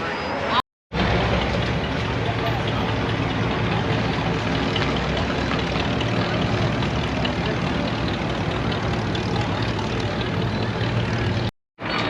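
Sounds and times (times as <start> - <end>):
faint voices: 0.0 - 12.0
low engine rumble: 0.9 - 11.5.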